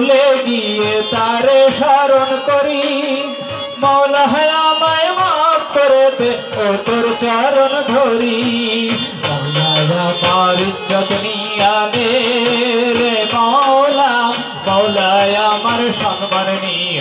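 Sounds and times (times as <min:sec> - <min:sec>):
hand drum beat: 0:00.0 - 0:17.0
harmonium melody: 0:00.0 - 0:17.0
jingling tambourine: 0:00.0 - 0:17.0
man singing through microphone: 0:00.0 - 0:17.0.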